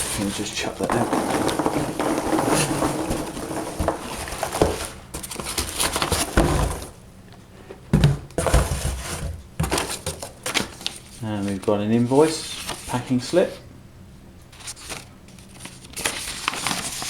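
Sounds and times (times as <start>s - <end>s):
cardboard rustling: 0.0s - 7.0s, 7.9s - 13.0s, 14.5s - 17.0s.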